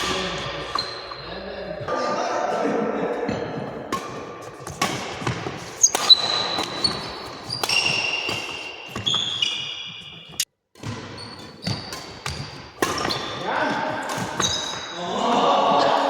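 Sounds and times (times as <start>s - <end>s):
shoes squeaking on court floor: 0.4s - 1.9s, 3.3s - 15.0s.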